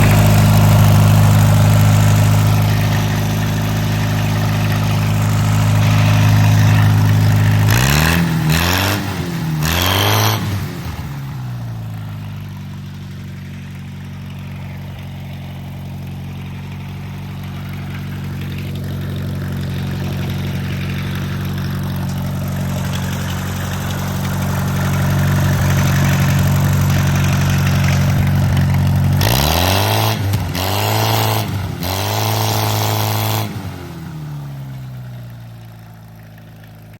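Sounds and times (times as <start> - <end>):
tractor engine running and revving: 0.0 - 36.9.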